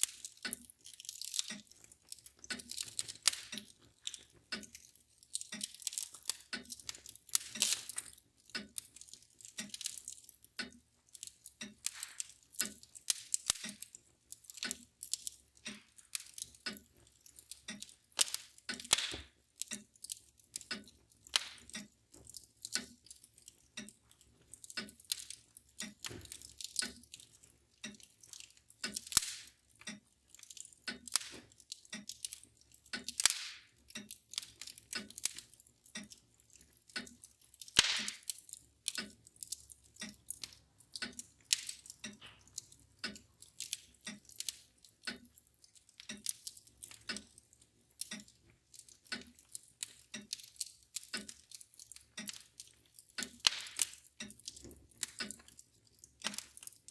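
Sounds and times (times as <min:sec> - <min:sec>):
mantel clock ticking: 0:00.0 - 0:56.9
wood fire crackling and popping: 0:00.0 - 0:56.9.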